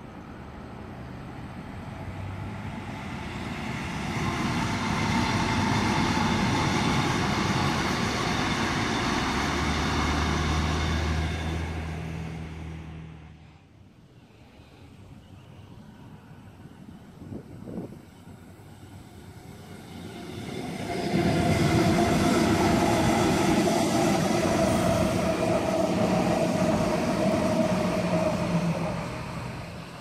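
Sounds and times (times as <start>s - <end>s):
electric train passing: 0.0s - 30.0s.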